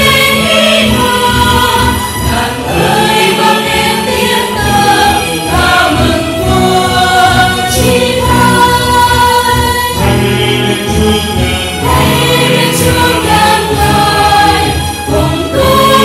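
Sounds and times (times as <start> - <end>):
church choir singing a hymn: 0.0 - 16.0.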